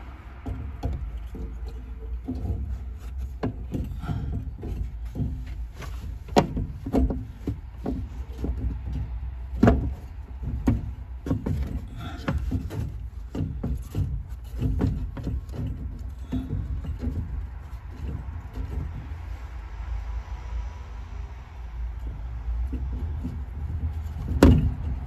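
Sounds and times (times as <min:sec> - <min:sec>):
clicks and knocks of hands working: 0:00.0 - 0:19.8, 0:22.0 - 0:25.0
low steady rumble: 0:00.0 - 0:25.0.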